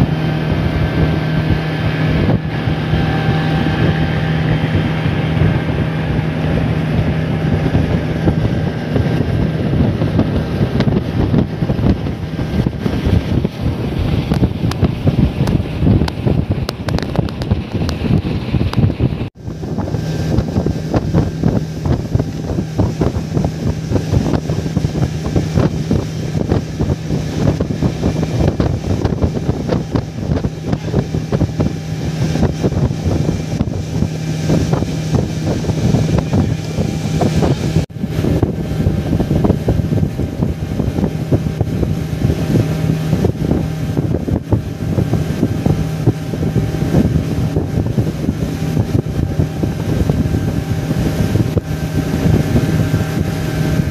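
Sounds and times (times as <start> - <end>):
boat engine humming: 0.0 - 53.9
wind buffeting microphone: 0.0 - 53.9.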